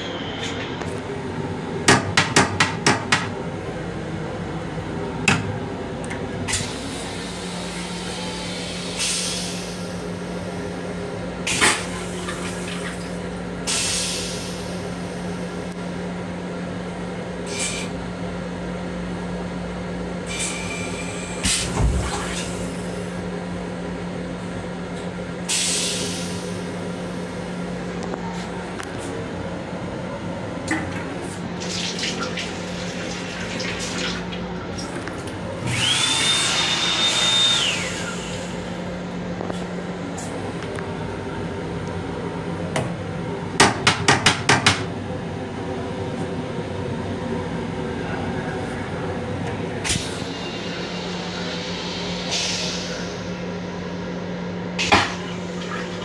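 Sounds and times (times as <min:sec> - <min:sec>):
railcar low hum: 0:00.0 - 0:02.2, 0:02.8 - 0:36.0, 0:36.9 - 0:43.7, 0:44.8 - 0:56.0.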